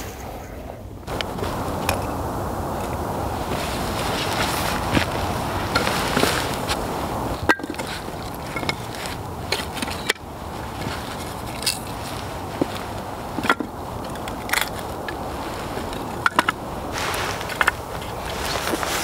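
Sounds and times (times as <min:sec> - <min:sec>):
background hiss: 0:00.0 - 0:19.0
firewood knocking and scraping: 0:01.1 - 0:19.0.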